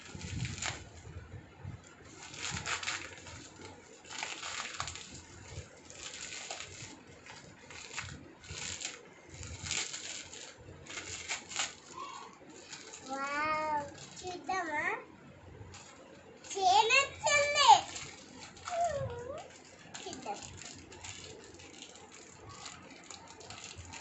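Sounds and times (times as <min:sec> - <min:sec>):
plastic packaging crinkling: 0:00.0 - 0:14.8, 0:15.6 - 0:24.0.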